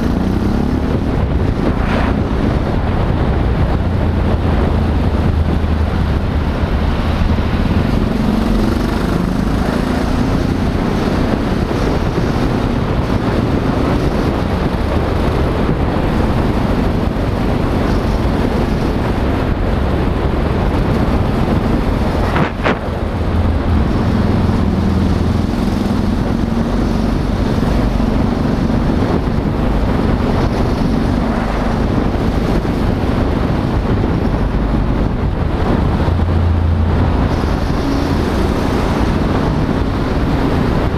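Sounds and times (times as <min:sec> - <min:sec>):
motorcycle engine humming: 0:00.0 - 0:40.9
wind rush: 0:00.0 - 0:40.9.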